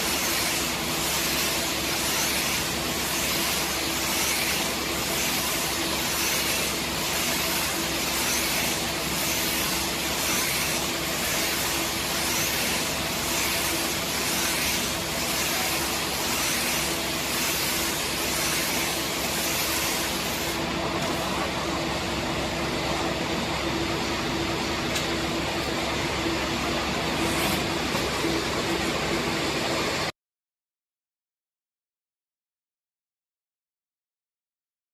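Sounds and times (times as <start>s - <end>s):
baling machine hissing and humming: 0.0s - 30.1s.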